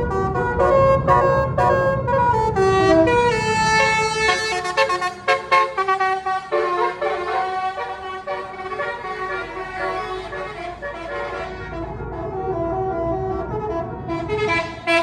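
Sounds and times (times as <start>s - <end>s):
bus engine rumble: 0.0s - 15.0s
musical bus horn tune: 0.0s - 15.0s.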